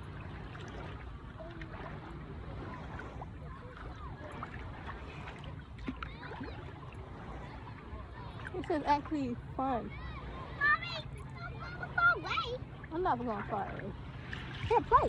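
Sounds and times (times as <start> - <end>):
faint distant voices: 0.0 - 15.0
water sloshing in shallows: 0.0 - 15.0.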